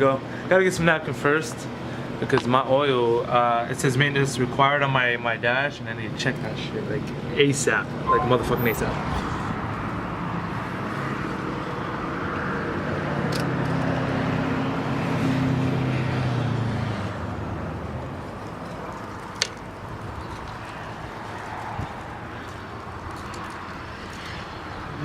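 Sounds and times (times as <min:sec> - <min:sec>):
traffic: 0:01.5 - 0:03.1, 0:05.8 - 0:25.0.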